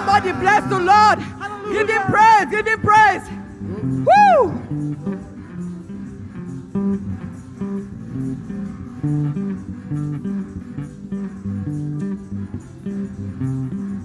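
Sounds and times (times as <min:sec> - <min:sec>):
bass guitar playing: 0:00.0 - 0:14.0
guitar playing: 0:00.0 - 0:14.0.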